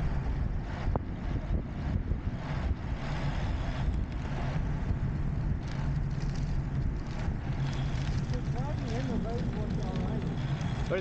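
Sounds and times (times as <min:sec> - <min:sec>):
steady rushing hiss: 0:00.0 - 0:11.0
wind buffeting microphone: 0:00.0 - 0:11.0.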